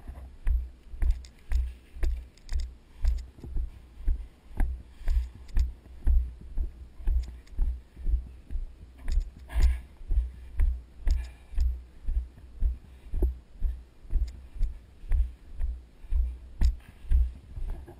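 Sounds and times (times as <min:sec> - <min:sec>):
running footsteps on grass: 0:00.0 - 0:17.9
gear clicking and rattling: 0:00.1 - 0:03.8, 0:04.6 - 0:13.4, 0:14.1 - 0:15.4, 0:16.2 - 0:17.9.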